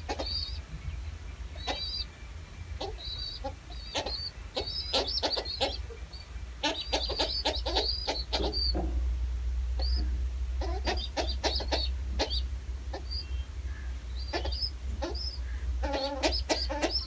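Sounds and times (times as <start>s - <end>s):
high bird chirps: 0.0s - 8.8s, 9.8s - 17.0s
lower bird calls: 0.0s - 9.0s, 9.8s - 17.0s
steady low rumble: 0.0s - 17.0s.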